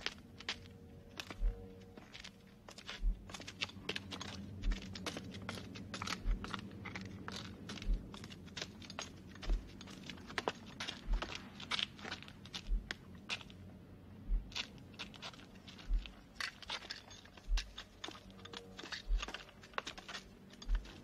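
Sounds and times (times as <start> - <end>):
crunching and clicking: 0.0 - 13.7, 14.3 - 21.0.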